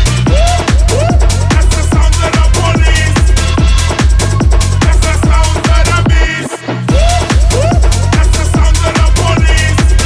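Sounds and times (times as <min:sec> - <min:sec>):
fast kick drum: 0:00.0 - 0:10.0.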